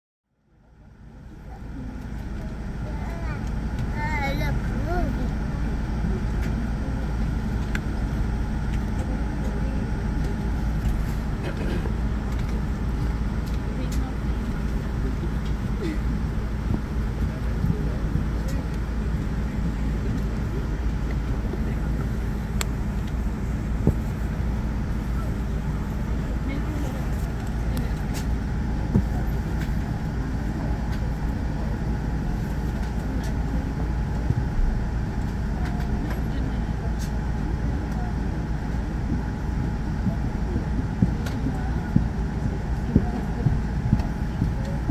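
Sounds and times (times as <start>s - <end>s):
airliner cabin low rumble: 0.3s - 44.9s.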